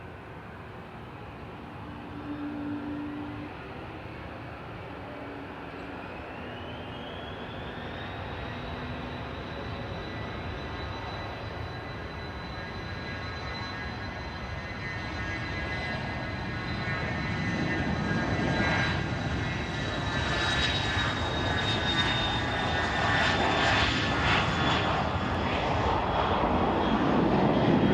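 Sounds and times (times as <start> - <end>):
jet engines at takeoff: 0.0 - 27.9.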